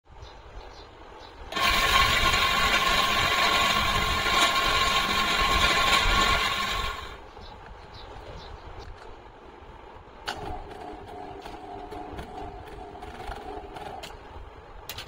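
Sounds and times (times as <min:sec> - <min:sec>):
fan rattling whine: 0:00.1 - 0:15.0.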